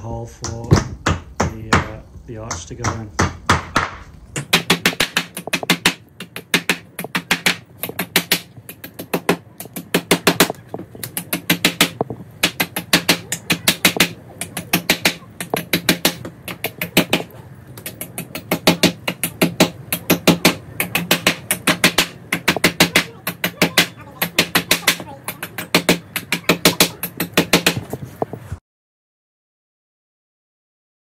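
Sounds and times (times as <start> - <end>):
hammer tapping nails: 0.4 - 28.4.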